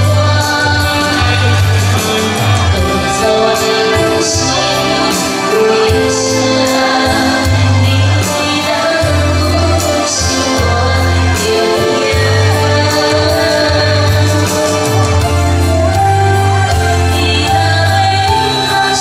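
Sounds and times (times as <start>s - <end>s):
bass line: 0.0s - 19.0s
electronic keyboard: 0.0s - 19.0s
woman singing into microphone: 0.0s - 19.0s.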